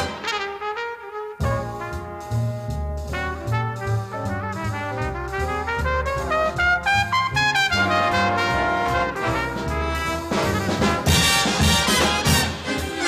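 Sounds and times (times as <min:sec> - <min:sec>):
brass background music: 0:00.0 - 0:13.0.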